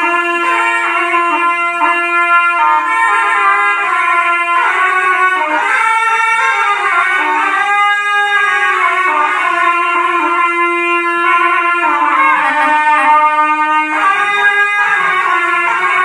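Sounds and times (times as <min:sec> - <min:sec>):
shawms playing melody: 0:00.0 - 0:16.0.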